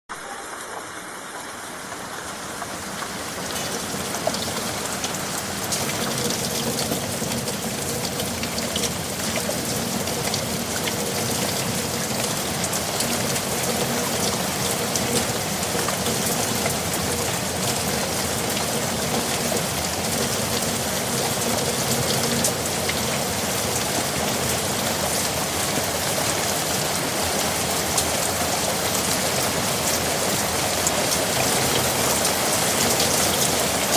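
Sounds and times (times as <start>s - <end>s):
raindrops pattering on a surface: 0.1s - 33.9s
steady rain falling: 0.1s - 33.9s.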